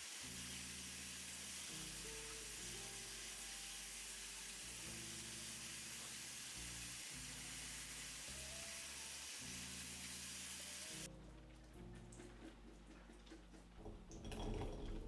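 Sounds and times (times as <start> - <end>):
water running: 0.0 - 11.1, 13.8 - 15.0.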